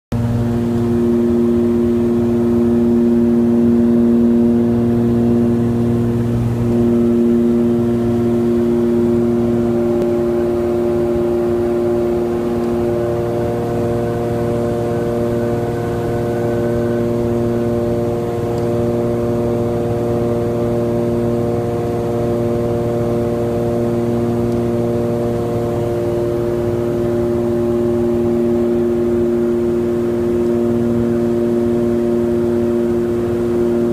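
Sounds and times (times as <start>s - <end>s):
aircraft engines droning in cabin: 0.1s - 33.9s.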